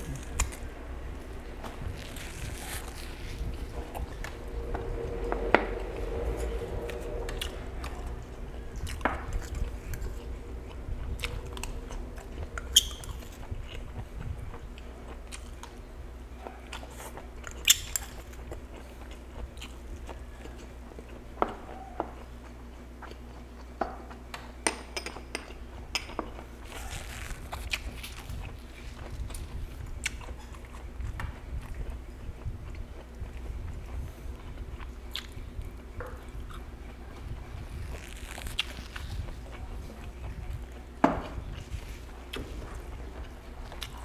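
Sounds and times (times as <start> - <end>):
man chewing food: 0.0 - 44.0.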